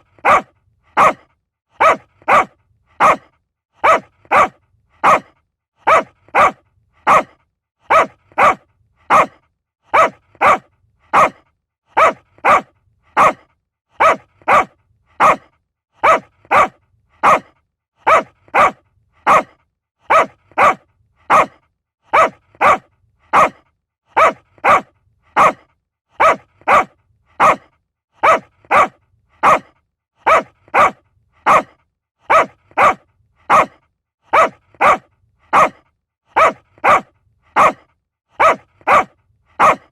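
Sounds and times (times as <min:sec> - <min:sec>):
small dog barking: 0:00.2 - 0:39.9.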